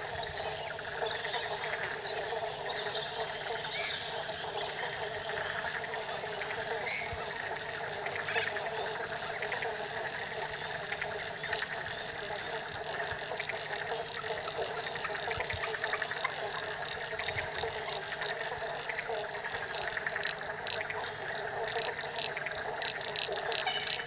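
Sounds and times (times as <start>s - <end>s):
frog chorus: 0.0s - 24.0s.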